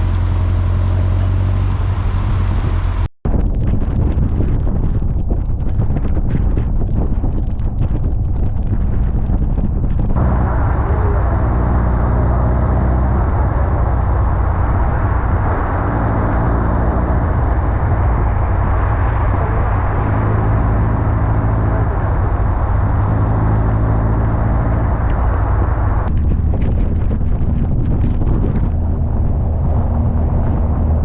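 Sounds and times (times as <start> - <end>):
car engine running: 0.0 - 3.1, 7.4 - 31.0
wind and road noise: 0.0 - 31.0.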